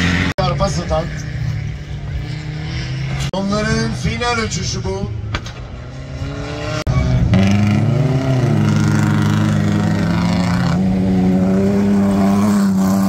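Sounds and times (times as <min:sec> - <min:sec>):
engine running at high revs: 0:00.0 - 0:03.3, 0:05.4 - 0:13.0.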